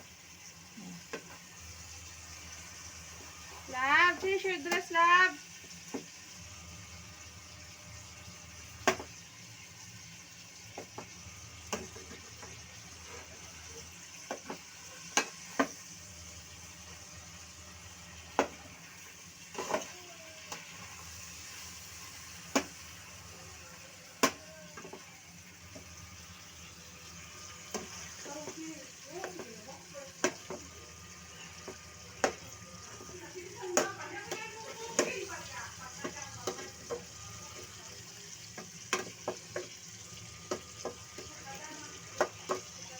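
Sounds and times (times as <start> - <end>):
chicken sizzling in a pan: 0.0 - 42.9.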